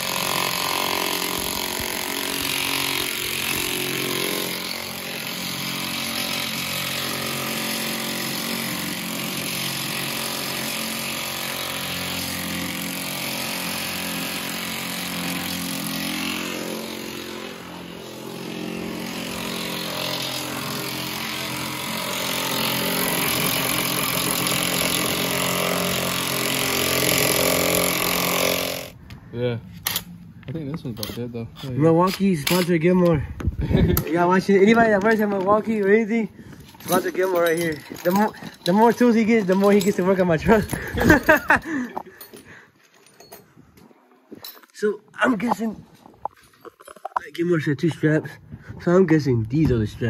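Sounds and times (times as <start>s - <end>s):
impact wrench running: 0.0s - 29.2s, 31.0s - 42.5s.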